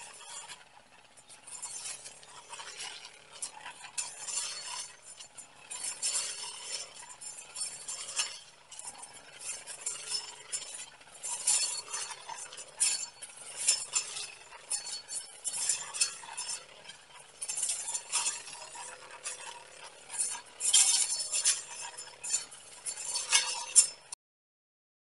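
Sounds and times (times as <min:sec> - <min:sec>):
small engine at low throttle: 0:00.0 - 0:24.2
blade cutting grass stems: 0:01.3 - 0:24.2.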